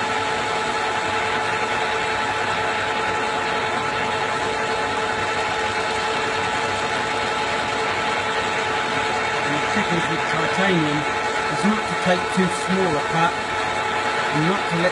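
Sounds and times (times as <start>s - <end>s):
metal lathe running: 0.0s - 14.9s.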